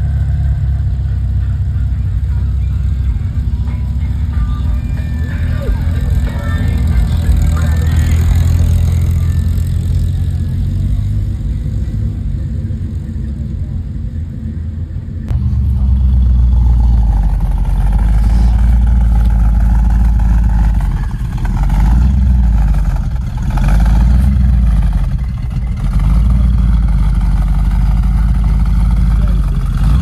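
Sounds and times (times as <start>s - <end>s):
car engine deep idle: 0.0s - 30.0s.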